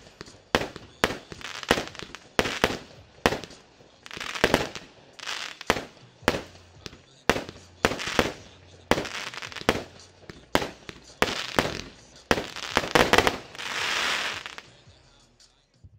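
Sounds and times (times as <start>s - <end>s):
fireworks crackling: 0.0s - 15.3s
fireworks reports: 0.0s - 15.7s.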